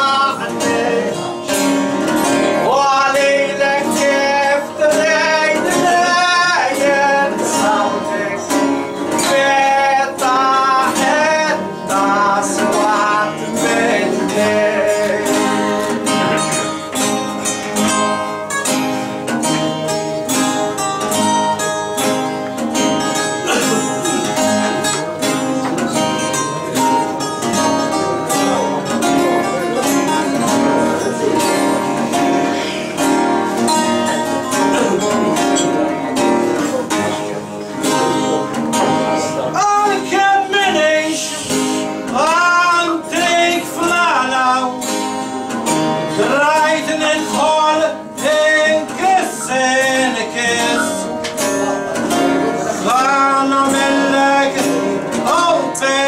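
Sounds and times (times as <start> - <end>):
acoustic guitars plucking: 0.0 - 56.0
man singing folk style: 0.0 - 56.0.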